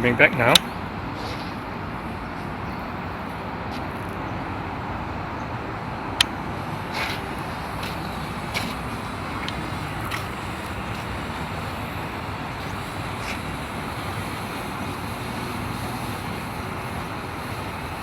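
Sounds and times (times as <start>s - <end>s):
distant road traffic: 0.0s - 18.0s
wind: 0.0s - 18.0s.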